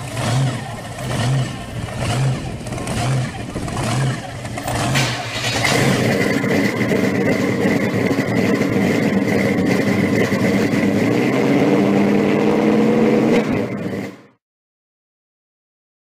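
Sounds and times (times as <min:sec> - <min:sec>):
car engine idling with whine: 0:00.0 - 0:14.4.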